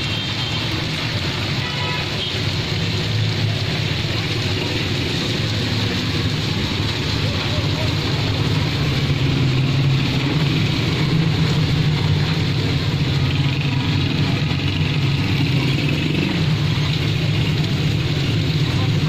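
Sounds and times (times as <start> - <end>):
hiss of tyres on wet street: 0.0 - 19.0.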